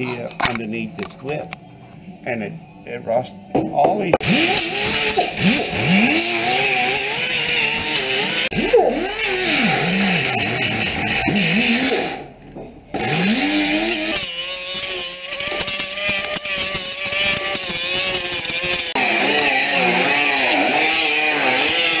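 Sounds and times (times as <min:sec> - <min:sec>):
angle grinder grinding metal: 0:04.2 - 0:22.0.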